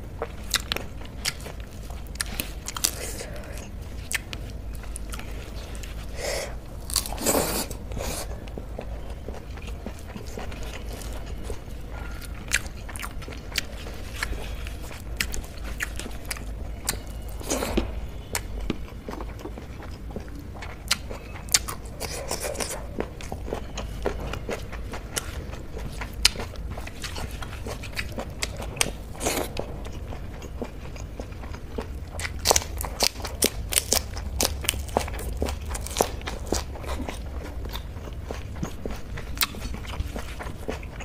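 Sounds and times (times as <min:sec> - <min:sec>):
low steady rumble: 0:00.0 - 0:41.0
wet chewing and lip smacks: 0:00.2 - 0:06.2, 0:06.9 - 0:41.0.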